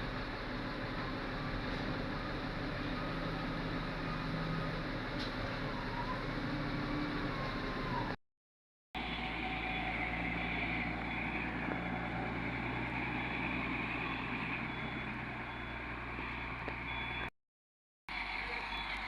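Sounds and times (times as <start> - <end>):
diesel machinery engine drone: 0.0 - 8.2, 9.0 - 17.3, 18.1 - 19.0.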